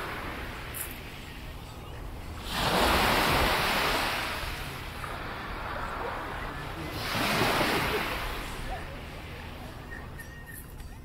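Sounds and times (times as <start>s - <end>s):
sea waves washing onto beach: 0.0s - 1.4s, 2.1s - 9.9s.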